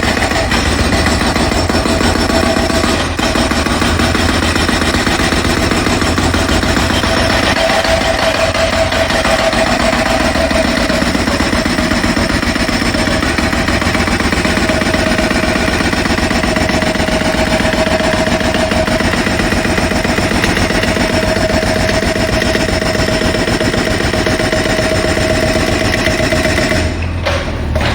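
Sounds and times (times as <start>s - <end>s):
jackhammer hammering: 0.0s - 27.9s.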